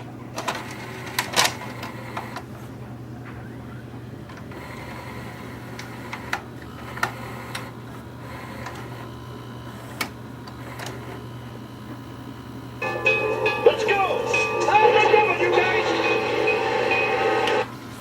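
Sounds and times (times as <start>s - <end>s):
tape motor hum: 0.4s - 2.5s, 4.2s - 17.7s.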